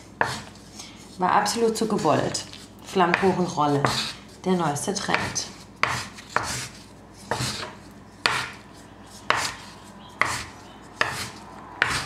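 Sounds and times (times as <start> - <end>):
knife scraping on wooden board: 0.2 - 0.8, 1.5 - 4.4, 5.0 - 12.0.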